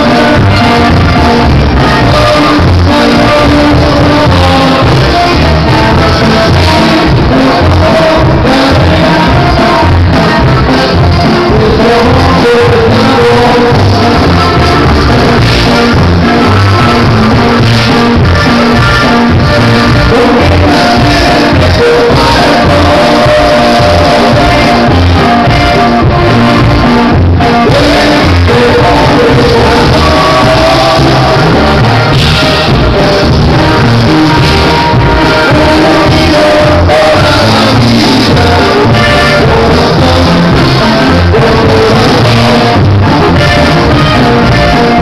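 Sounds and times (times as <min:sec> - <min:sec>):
band music with singing: 0:00.0 - 0:45.0
steady bass beat: 0:00.0 - 0:45.0.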